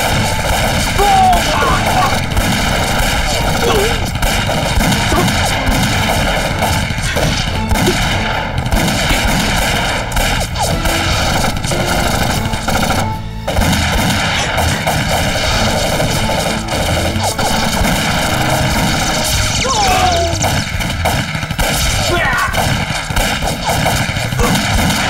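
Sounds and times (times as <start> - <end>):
dramatic music score: 0.0 - 25.0
rifle and machine-gun fire: 0.0 - 25.0.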